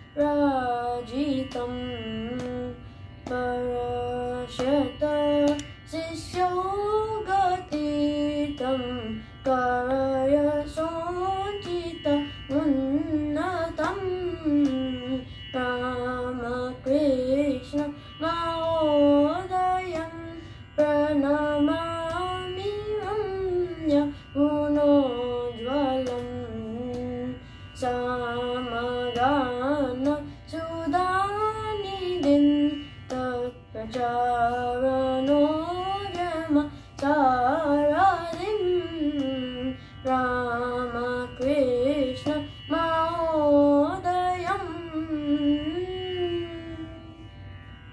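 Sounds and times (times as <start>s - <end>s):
boy singing with ornaments: 0.0s - 47.2s
faint steady drone: 0.0s - 47.9s.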